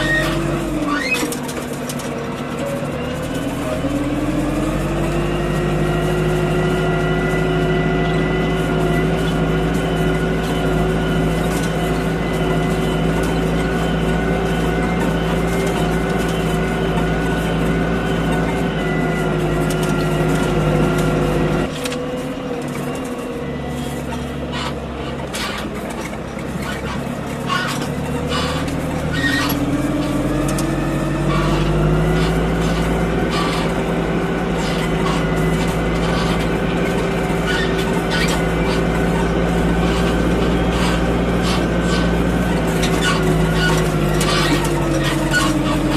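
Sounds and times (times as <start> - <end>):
tractor diesel engine: 0.0 - 45.9.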